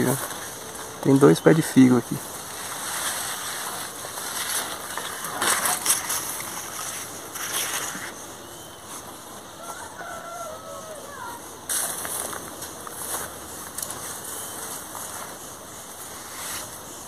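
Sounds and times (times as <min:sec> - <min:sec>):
leaves and twigs rustling: 0:00.0 - 0:17.0.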